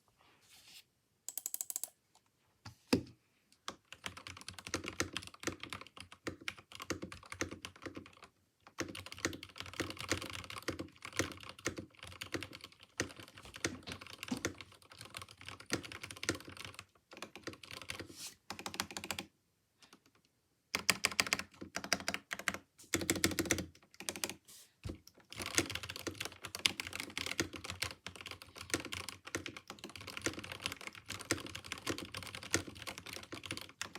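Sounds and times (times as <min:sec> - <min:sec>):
mechanical keyboard typing: 0:01.3 - 0:02.0, 0:03.7 - 0:19.3, 0:20.7 - 0:24.4, 0:25.1 - 0:33.9.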